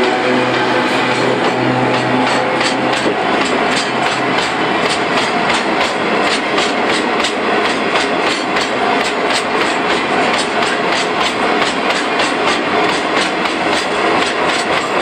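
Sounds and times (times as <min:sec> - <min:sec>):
freight train rolling past: 0:00.0 - 0:15.0
wheels clickety-clack on rail joints: 0:00.0 - 0:15.0.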